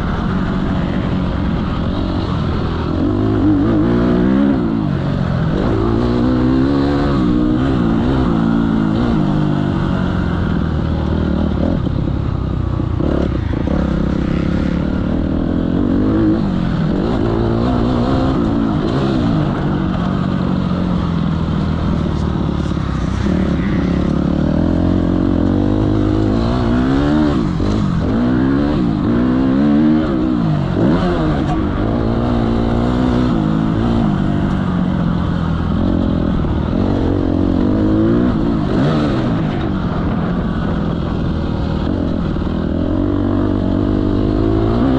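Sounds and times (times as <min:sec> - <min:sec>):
motocross bikes revving: 0:00.0 - 0:44.9.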